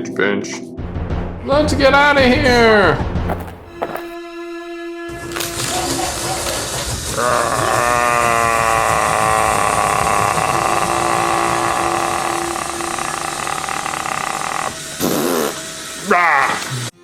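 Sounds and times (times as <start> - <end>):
train engine running: 3.2 - 16.9.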